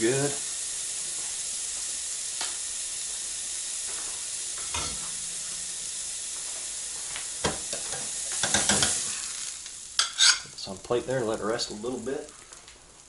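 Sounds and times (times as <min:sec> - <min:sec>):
steak sizzling on a grill: 0:00.0 - 0:13.0.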